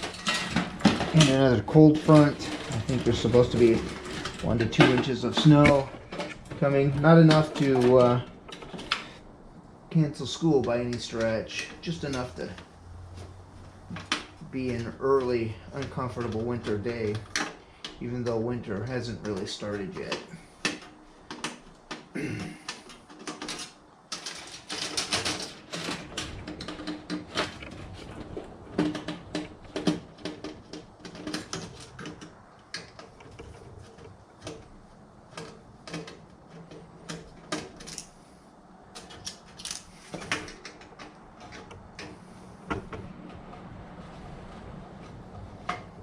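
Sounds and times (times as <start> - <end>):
computer parts clattering: 0.0 - 9.4, 10.0 - 46.0.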